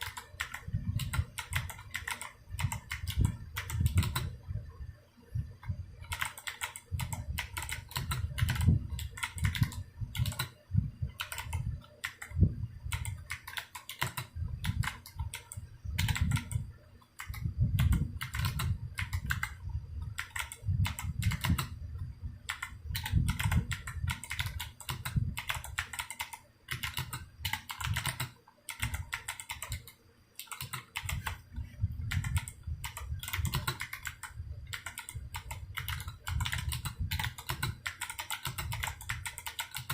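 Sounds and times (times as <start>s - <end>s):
clicky keyboard typing: 0.0s - 4.4s, 6.0s - 21.8s, 22.5s - 39.9s.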